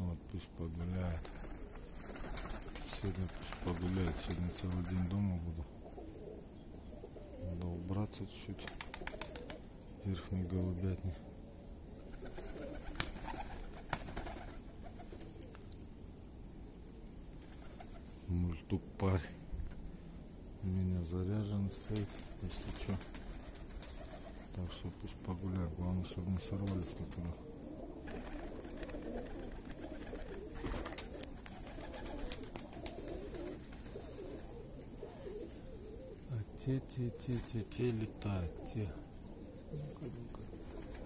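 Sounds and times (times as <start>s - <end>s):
pigeons cooing: 0.9s - 18.3s, 21.2s - 41.0s.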